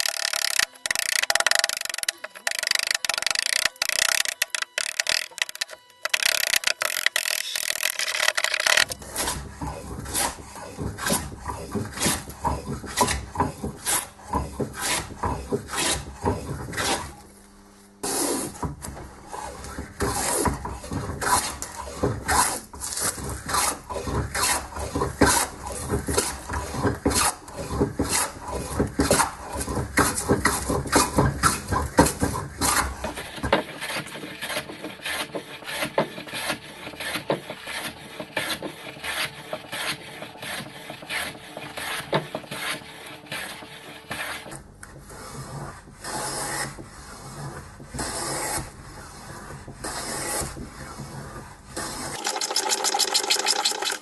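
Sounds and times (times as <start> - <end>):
hand plane shaving wood: 0.0 - 17.2, 18.0 - 54.0.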